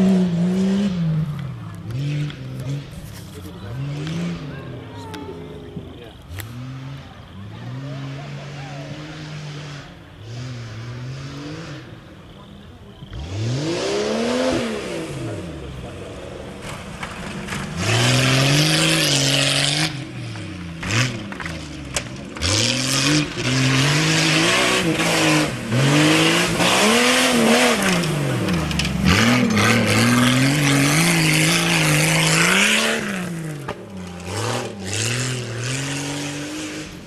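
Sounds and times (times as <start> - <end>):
engine revving: 0.0 - 37.0
tyres spinning and spraying dirt: 0.0 - 37.0.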